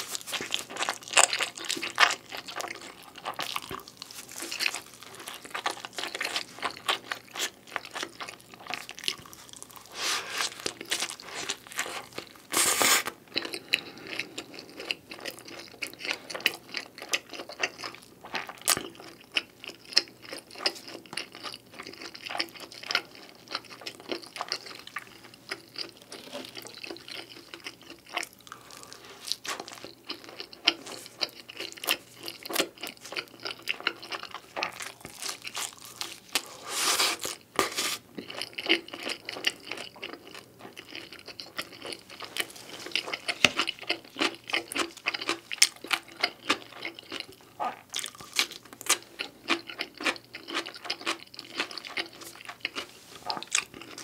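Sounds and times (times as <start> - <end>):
chewing and crunching pizza: 0.0 - 54.0.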